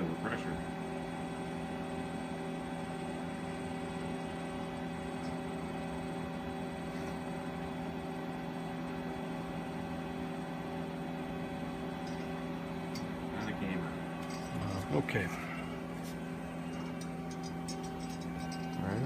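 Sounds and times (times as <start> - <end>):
steady hum of constant tones: 0.0 - 19.0.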